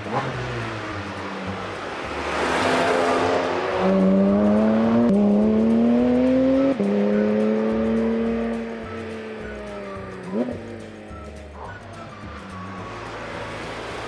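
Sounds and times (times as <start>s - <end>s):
car engine accelerating: 0.0s - 14.0s
sports car passing: 0.0s - 14.0s.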